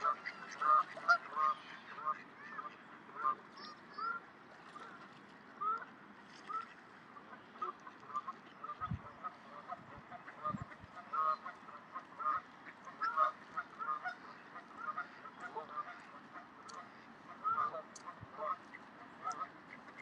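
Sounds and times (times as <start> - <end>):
geese honking: 0.0 - 4.8, 7.4 - 20.0.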